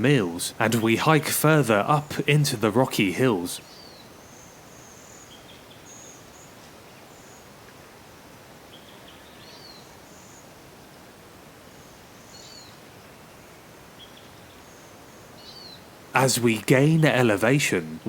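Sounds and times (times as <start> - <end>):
outdoor ambience hiss: 0.0 - 18.0.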